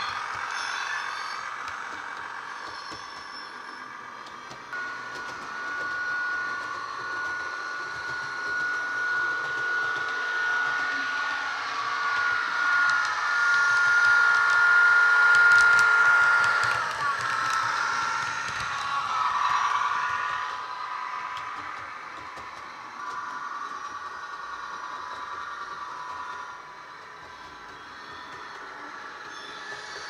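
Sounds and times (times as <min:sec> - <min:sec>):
high whine: 0:00.0 - 0:29.6
model train diesel sound: 0:00.0 - 0:30.0.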